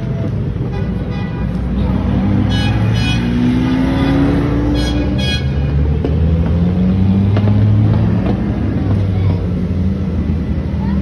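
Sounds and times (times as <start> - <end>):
sports car engines driving past: 1.6 - 11.0.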